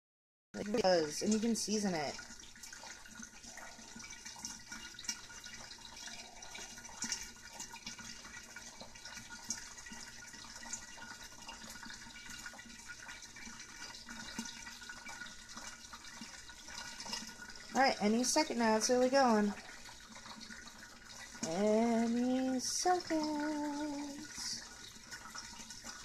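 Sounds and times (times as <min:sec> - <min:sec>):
hot oil sizzling and crackling: 0:00.6 - 0:21.5.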